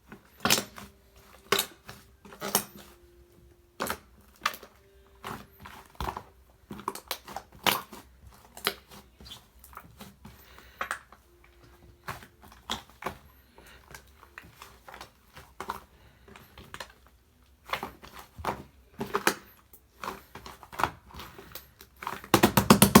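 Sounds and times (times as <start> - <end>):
slime squishing with sticky pops: 0.0 - 23.0.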